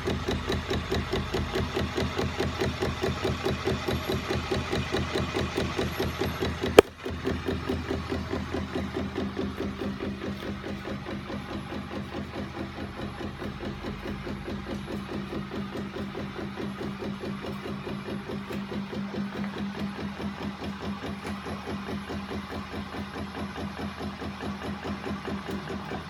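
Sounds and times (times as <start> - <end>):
rhythmic clatter of machine arms: 0.0 - 26.0.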